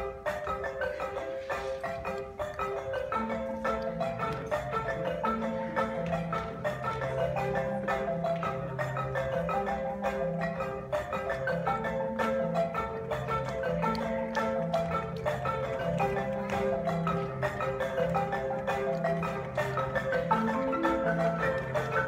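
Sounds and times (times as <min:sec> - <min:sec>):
marimbas playing fast pattern: 0:00.0 - 0:22.0.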